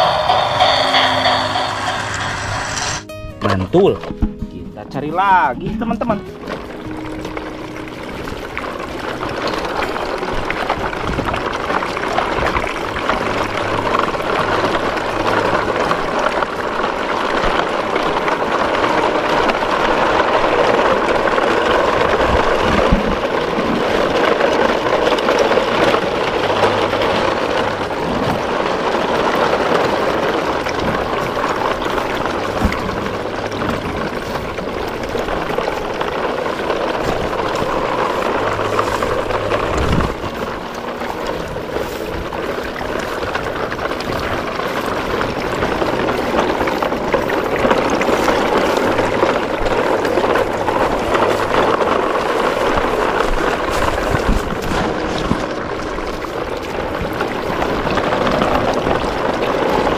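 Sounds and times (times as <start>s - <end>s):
water rushing along a channel: 0.0s - 59.9s.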